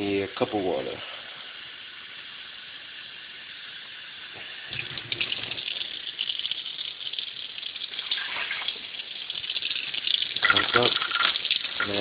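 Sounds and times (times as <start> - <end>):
water spilling into a sink: 1.8 - 12.0
tap water running into a cup: 1.9 - 12.0.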